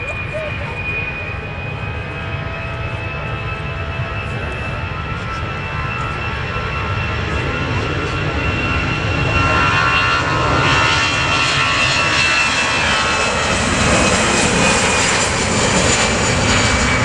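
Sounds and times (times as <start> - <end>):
jet airliner engines rumbling: 0.0 - 17.0.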